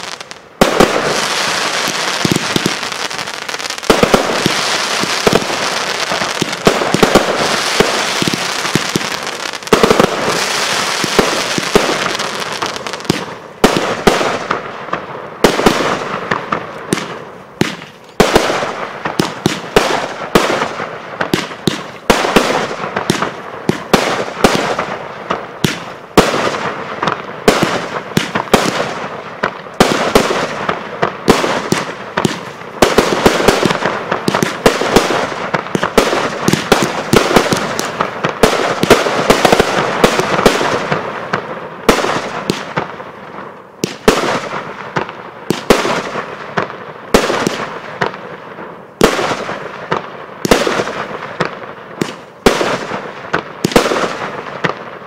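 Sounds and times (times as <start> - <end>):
firework bangs: 0.0 - 55.0
fireworks crackling: 0.0 - 55.0.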